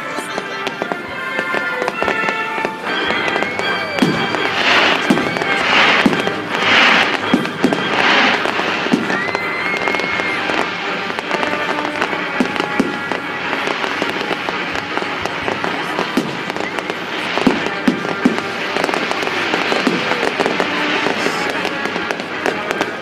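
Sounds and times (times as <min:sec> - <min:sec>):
firework crackling: 0:00.0 - 0:23.0
fireworks popping and banging: 0:00.0 - 0:23.0
hissing firework bursts: 0:00.0 - 0:23.0.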